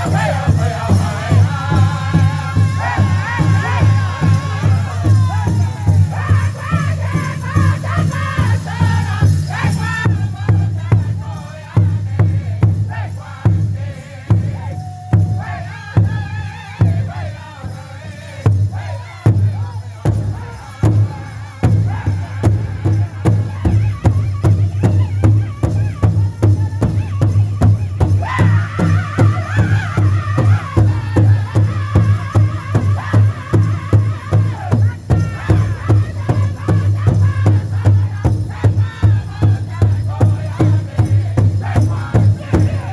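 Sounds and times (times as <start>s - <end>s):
big drum steady beat: 0.0s - 42.9s
high-pitched group singing: 0.0s - 42.9s.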